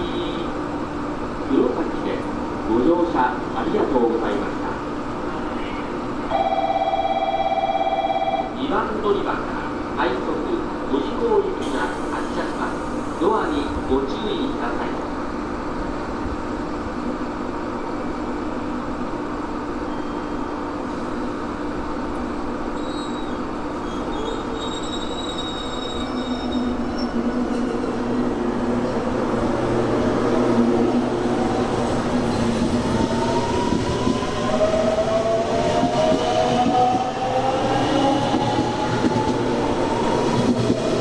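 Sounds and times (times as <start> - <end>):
electric train hum: 0.0 - 41.0.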